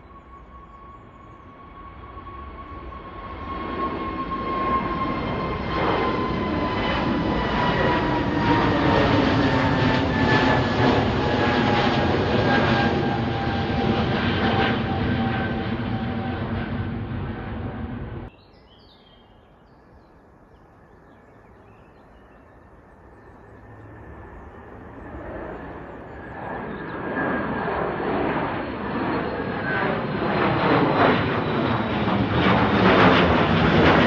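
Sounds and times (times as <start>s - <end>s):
airliner engines taking off: 0.0s - 18.4s, 19.4s - 34.0s.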